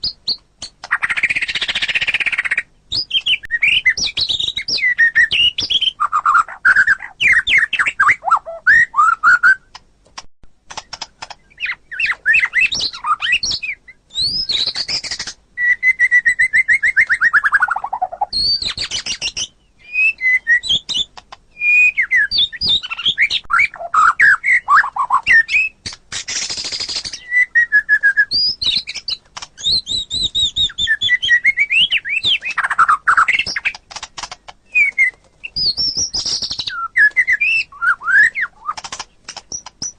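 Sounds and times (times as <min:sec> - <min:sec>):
songbird whistling and trilling: 0:00.0 - 0:09.8, 0:10.8 - 0:39.9.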